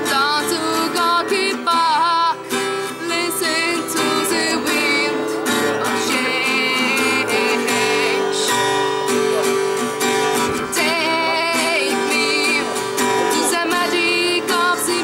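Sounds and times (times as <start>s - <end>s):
woman singing: 0.0s - 8.8s, 10.4s - 15.0s
acoustic guitar strumming: 0.0s - 15.0s.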